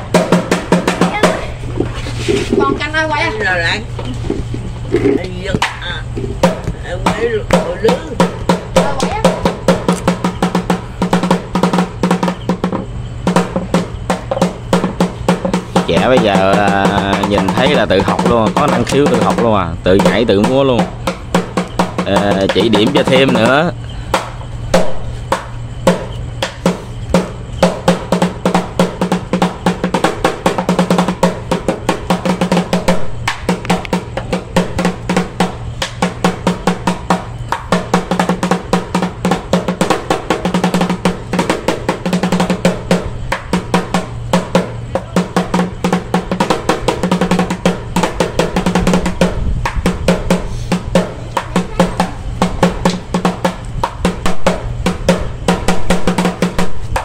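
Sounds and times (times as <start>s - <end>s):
large drum rolls and beats: 0.0s - 57.0s.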